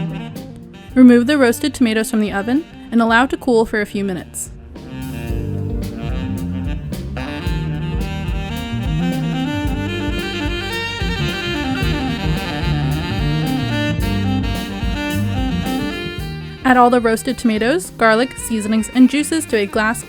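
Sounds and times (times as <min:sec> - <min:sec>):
steady beat: 0:00.0 - 0:01.4, 0:04.5 - 0:20.0
jazz music with saxophone: 0:00.0 - 0:20.0.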